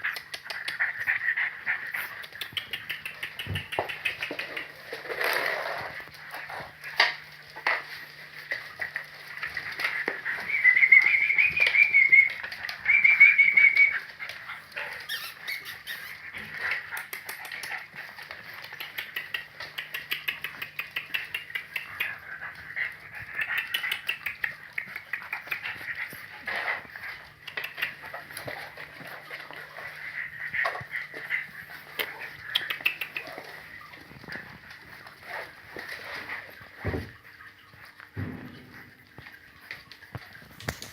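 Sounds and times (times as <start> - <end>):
puppies squeaking and whining: 0.0 - 37.9.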